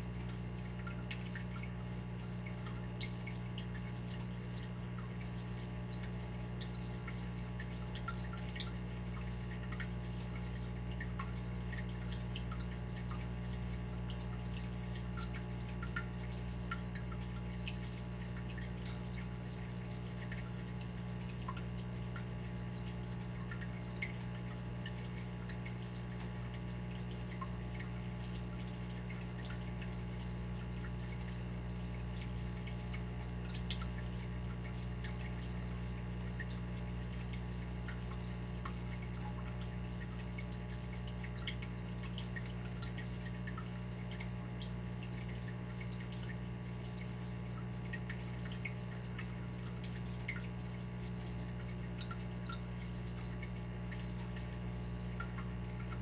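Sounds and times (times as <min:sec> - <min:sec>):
water dripping and trickling: 0:00.0 - 0:56.0.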